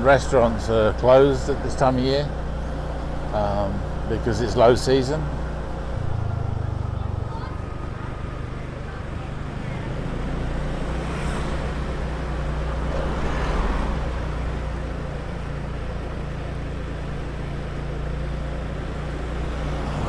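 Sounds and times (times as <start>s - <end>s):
motor scooter engine running: 0.0s - 20.0s
wind and road noise: 0.0s - 20.0s.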